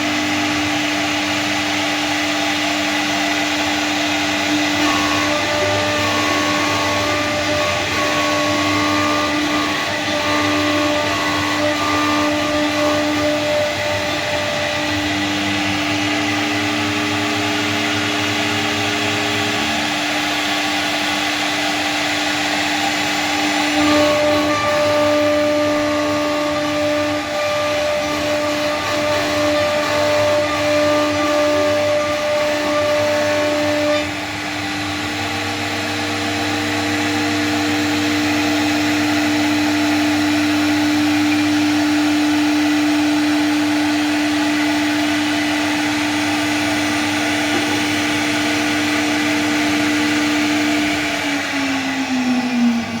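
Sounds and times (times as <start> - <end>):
router spindle motor whine: 0.0 - 53.0.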